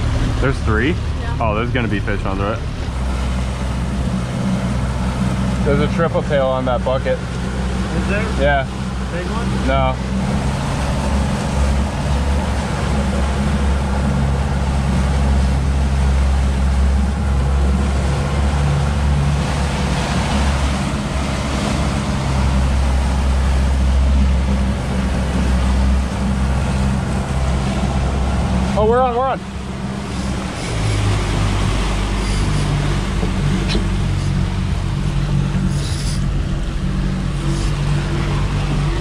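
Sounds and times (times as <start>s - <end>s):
outboard motor humming: 0.0s - 39.0s.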